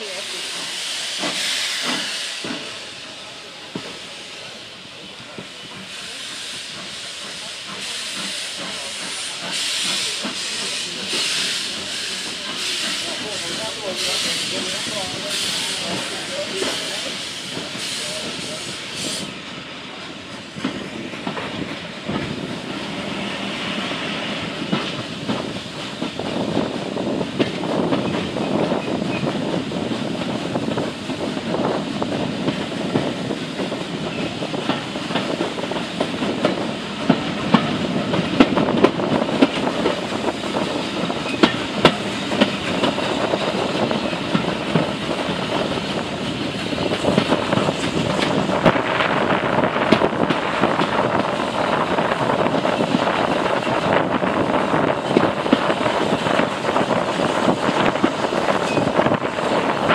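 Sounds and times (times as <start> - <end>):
steam hiss: 0.0 - 59.9
train wheels clicking over rail joints: 0.5 - 59.9.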